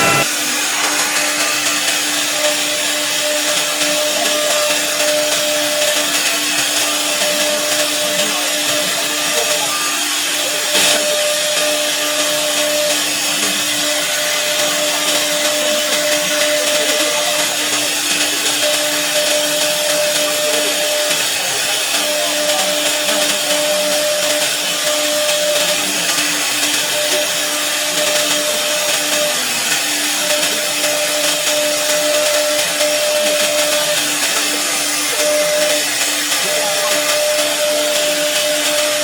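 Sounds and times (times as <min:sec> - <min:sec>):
cnc router spindle running: 0:00.0 - 0:39.0.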